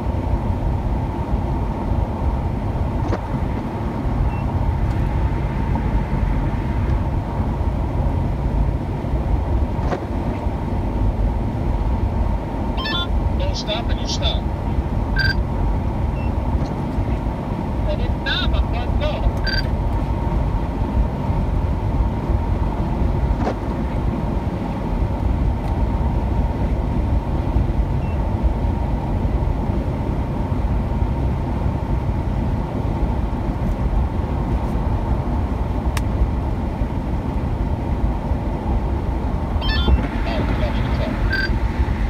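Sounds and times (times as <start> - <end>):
road and tyre noise in car: 0.0 - 42.0.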